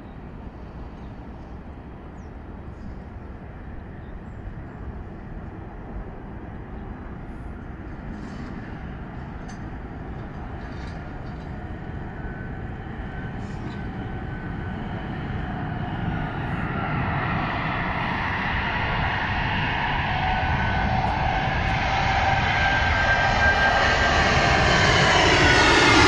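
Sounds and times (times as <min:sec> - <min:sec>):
jet airliner rumble: 0:00.0 - 0:26.0.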